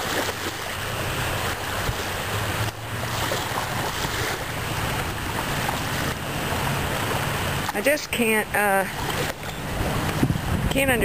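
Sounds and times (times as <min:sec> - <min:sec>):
wind rumbling on microphone: 0:00.0 - 0:07.8, 0:08.9 - 0:11.0
small waves lapping on beach: 0:00.0 - 0:11.0.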